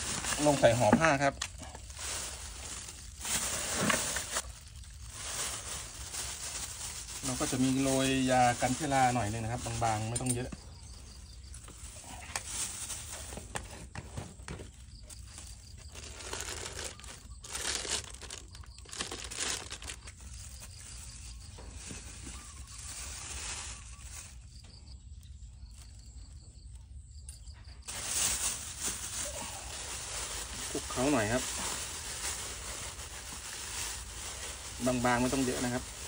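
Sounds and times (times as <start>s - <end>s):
plastic bags crinkling: 0.0s - 10.5s, 11.3s - 13.7s, 14.7s - 24.5s, 27.9s - 36.0s.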